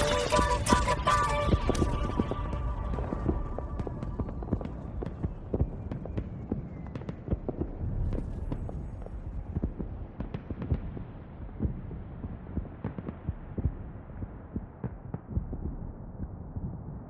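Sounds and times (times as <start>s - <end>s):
muffled low rumble: 0.0s - 6.1s, 7.6s - 17.0s.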